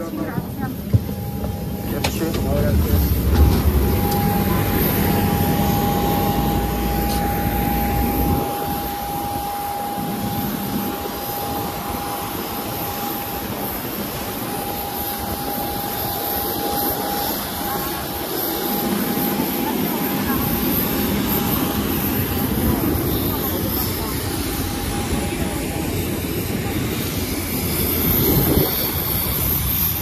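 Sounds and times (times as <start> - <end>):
jet airliner whine and hiss: 0.0 - 30.0
low jet rumble: 0.0 - 30.0.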